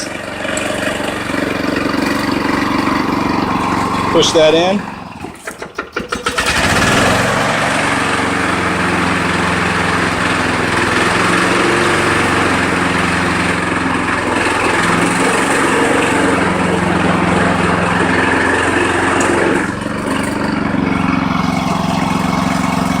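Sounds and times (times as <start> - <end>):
spinning mower blade whooshing: 0.0 - 5.5, 6.2 - 23.0
push mower engine running: 0.0 - 23.0.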